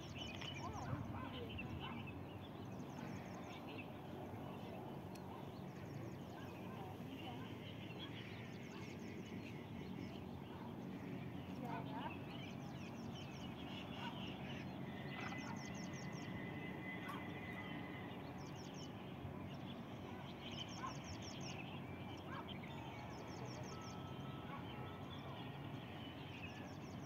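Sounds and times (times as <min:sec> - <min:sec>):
outdoor background noise: 0:00.0 - 0:27.0
small birds trilling: 0:00.0 - 0:27.0.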